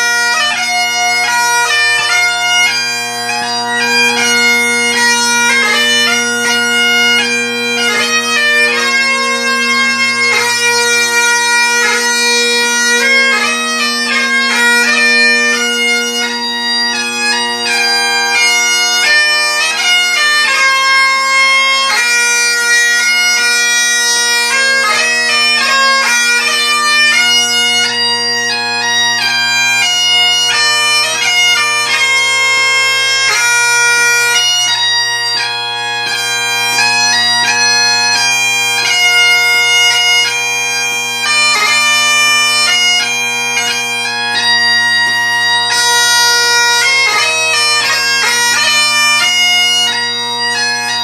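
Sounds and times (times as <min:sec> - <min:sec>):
bagpipe playing: 0:00.0 - 0:51.0.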